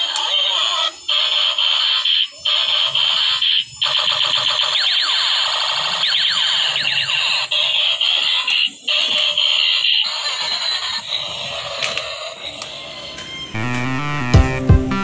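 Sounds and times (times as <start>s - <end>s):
toy robot buzzing alarm tone: 0.0s - 14.2s.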